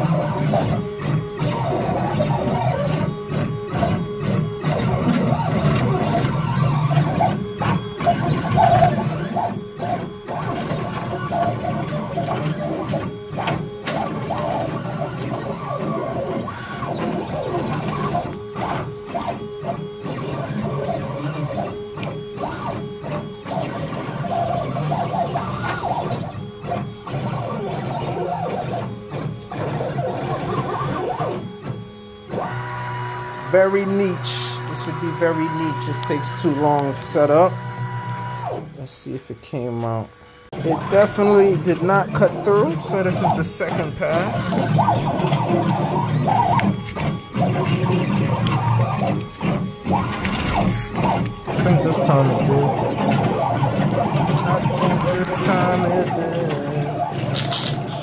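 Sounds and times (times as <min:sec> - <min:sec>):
stepper motors whining: 0:00.0 - 0:58.0.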